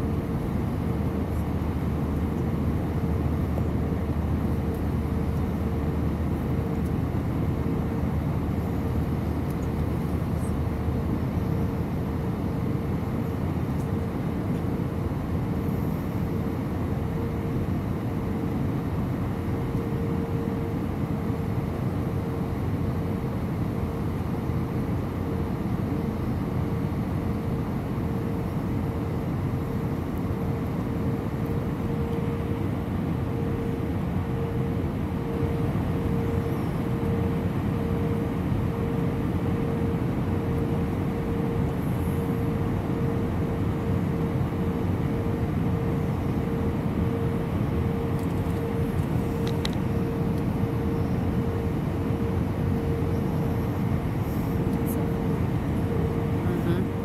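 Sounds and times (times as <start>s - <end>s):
airliner cabin engine rush: 0.0s - 57.0s
steady mid-pitched hum: 0.0s - 57.0s.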